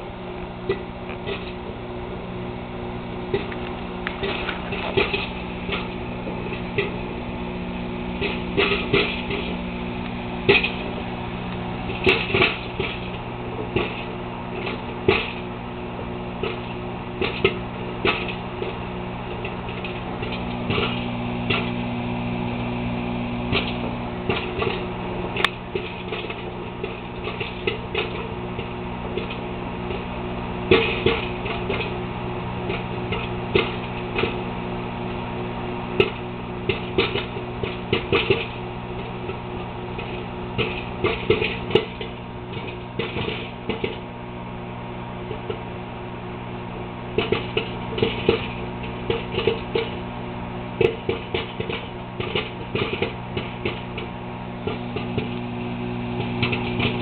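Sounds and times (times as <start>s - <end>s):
microwave oven humming: 0.0s - 57.0s
popcorn popping: 0.0s - 57.0s.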